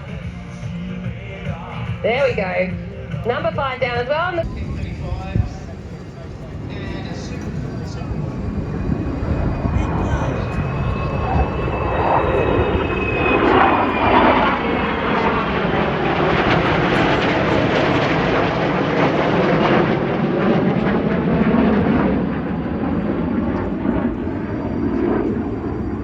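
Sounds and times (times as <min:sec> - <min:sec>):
aircraft engine: 0:00.0 - 0:26.0.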